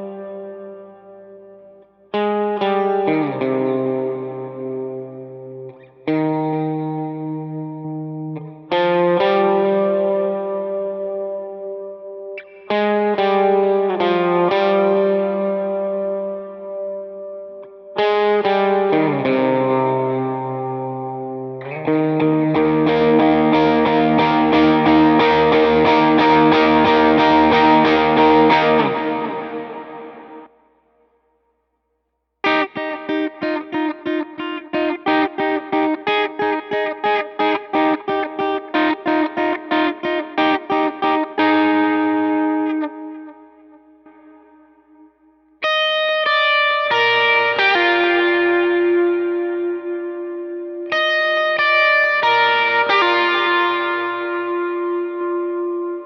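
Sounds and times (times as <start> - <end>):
overdriven electric guitar notes: 0.0 - 31.1, 32.4 - 56.0.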